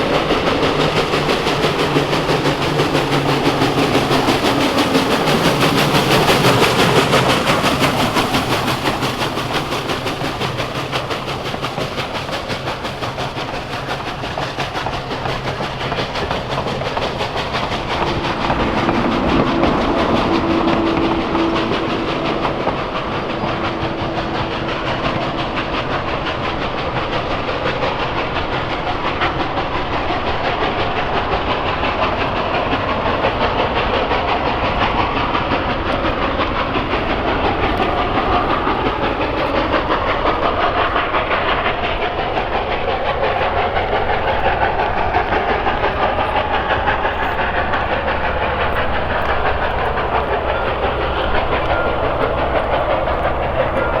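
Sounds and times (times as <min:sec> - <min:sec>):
train wheels clacking over rails: 0:00.0 - 0:54.0.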